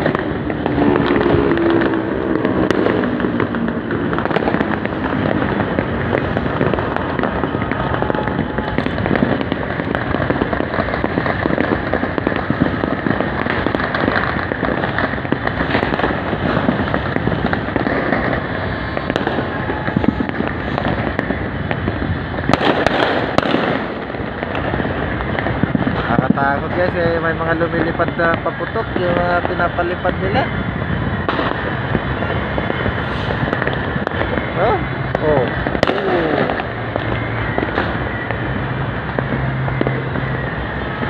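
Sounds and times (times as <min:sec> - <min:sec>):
firecrackers and fireworks crackling: 0:00.0 - 0:41.0.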